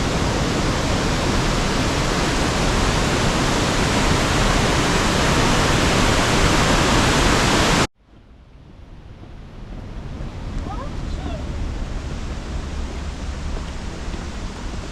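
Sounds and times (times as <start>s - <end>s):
waterfall roaring: 0.0s - 7.9s, 9.8s - 14.9s.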